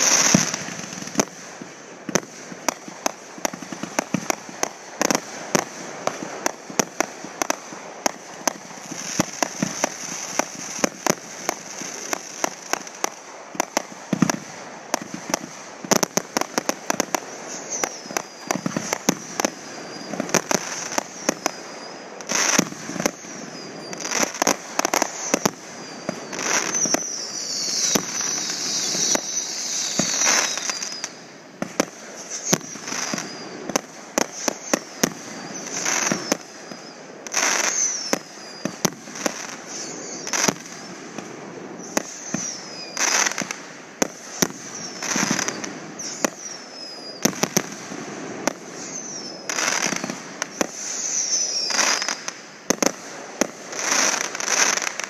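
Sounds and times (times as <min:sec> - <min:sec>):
fireworks bangs and crackling: 0:00.0 - 0:55.0
fireworks whistling down in pitch: 0:00.0 - 0:55.0.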